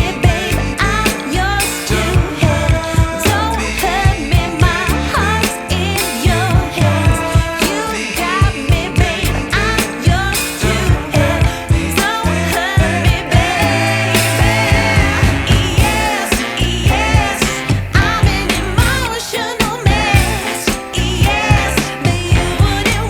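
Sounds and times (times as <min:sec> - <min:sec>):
song with vocals beat and bass: 0:00.0 - 0:23.0.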